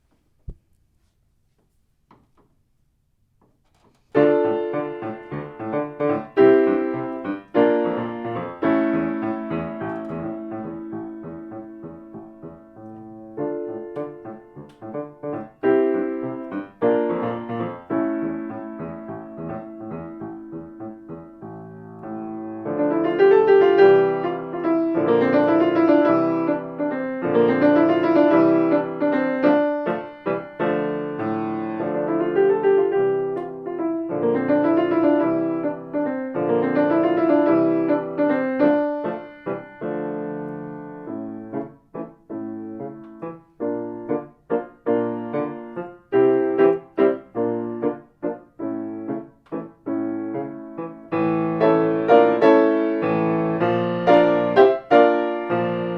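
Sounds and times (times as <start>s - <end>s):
solo piano samba piece: 0.0s - 55.9s.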